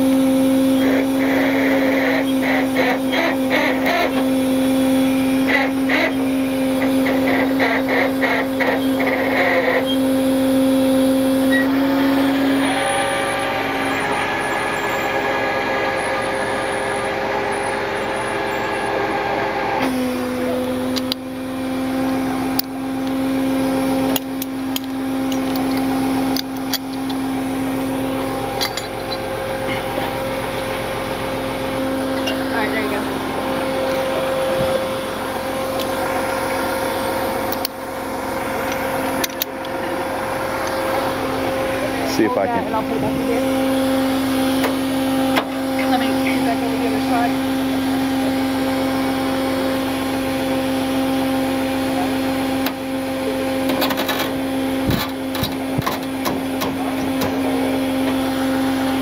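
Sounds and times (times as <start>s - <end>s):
engine running under load: 0.0s - 59.0s
winch whine: 0.0s - 59.0s.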